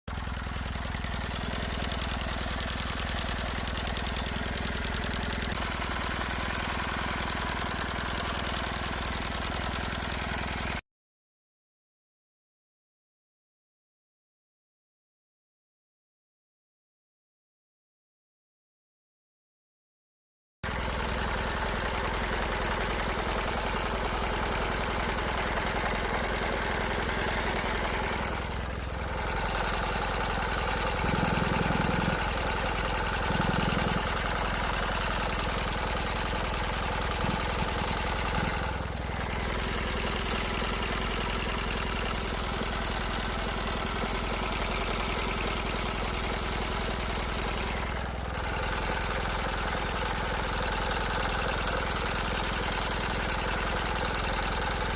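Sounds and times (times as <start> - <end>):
motorcycle engine idling: 0.1 - 10.8, 20.6 - 54.9.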